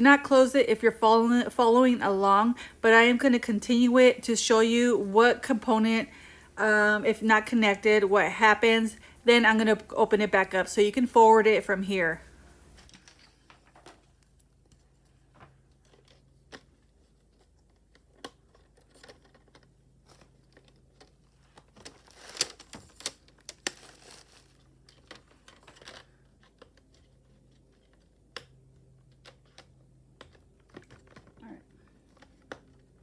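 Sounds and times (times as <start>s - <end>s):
rustling: 0.6s - 28.3s.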